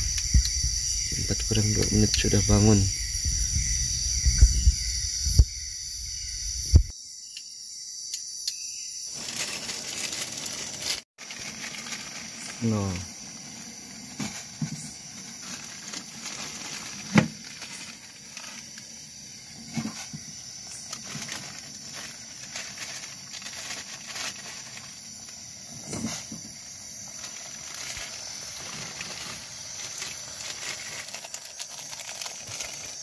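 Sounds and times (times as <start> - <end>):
night insects chorus: 0.0 - 33.0.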